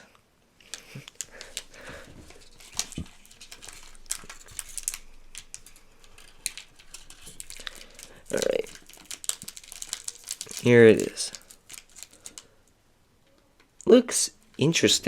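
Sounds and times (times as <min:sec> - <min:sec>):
plastic packaging crinkling: 0:00.6 - 0:12.7.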